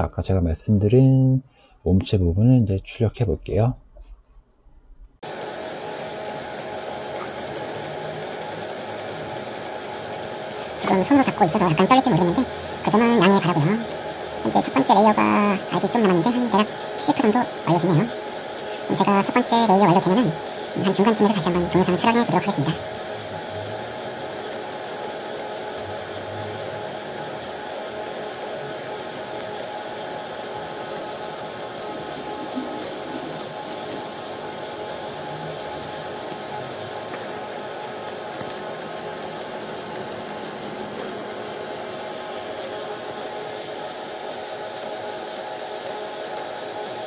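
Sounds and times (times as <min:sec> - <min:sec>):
cooling fans whirring: 0:05.2 - 0:47.0
stepper motors whining: 0:05.2 - 0:47.0.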